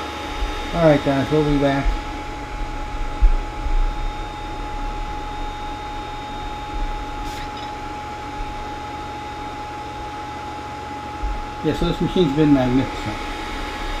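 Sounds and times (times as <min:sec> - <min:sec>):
low thumps: 0:00.0 - 0:14.0
printer fan hum: 0:00.0 - 0:14.0
whining tones: 0:00.0 - 0:14.0.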